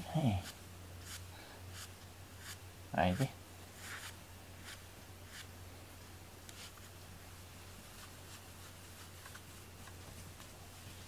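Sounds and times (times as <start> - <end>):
hand rustling cat fur: 0.0 - 5.5, 6.5 - 11.0.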